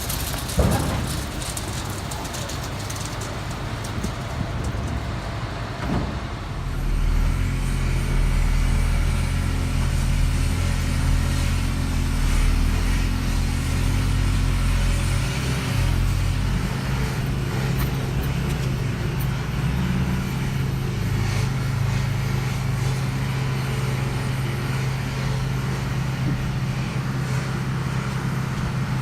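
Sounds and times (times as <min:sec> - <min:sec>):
large vehicle engine running: 0:00.0 - 0:29.0.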